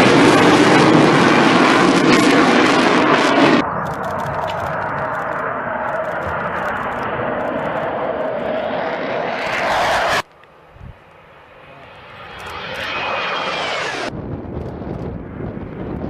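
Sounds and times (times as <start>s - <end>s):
high turbine whine: 0.0s - 16.0s
jet engine roar: 0.0s - 16.0s.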